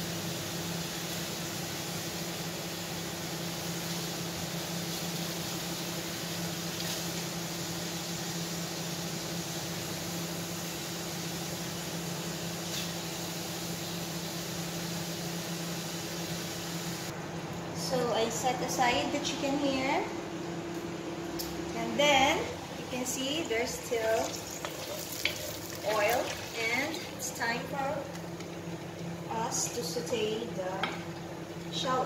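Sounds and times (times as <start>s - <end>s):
range hood fan running: 0.0s - 32.0s.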